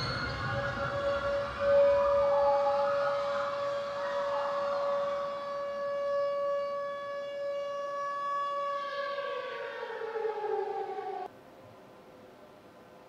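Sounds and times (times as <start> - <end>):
air raid siren wailing: 0.0 - 11.3.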